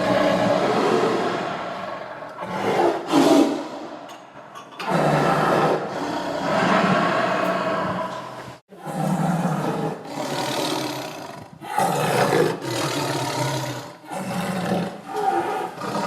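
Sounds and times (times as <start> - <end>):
tiger roaring and growling: 0.0 - 16.0.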